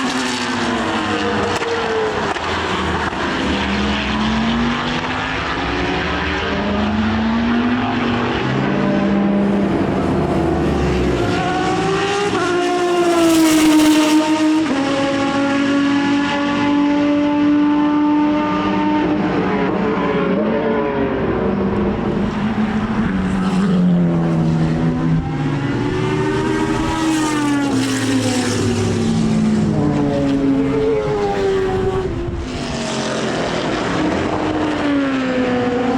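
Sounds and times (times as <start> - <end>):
racing car engines: 0.0 - 35.9
racing cars passing by: 0.0 - 35.9.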